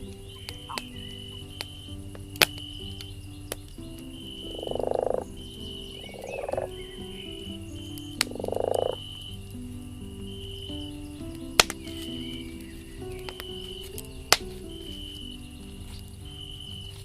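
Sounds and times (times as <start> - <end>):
campfire crackle: 0.0 - 17.0
frog croaking: 0.0 - 17.0
soft sustained music: 0.0 - 17.0.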